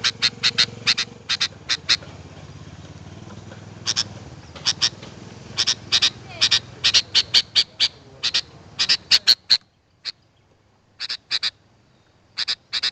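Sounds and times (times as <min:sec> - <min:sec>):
bird chirping calls: 0:00.0 - 0:12.9.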